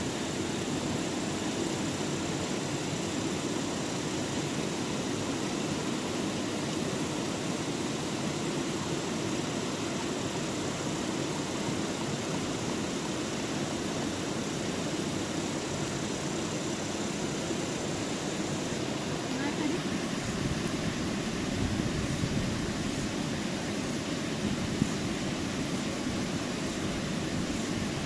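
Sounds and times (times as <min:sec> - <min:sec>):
stream rushing: 0:00.0 - 0:28.0.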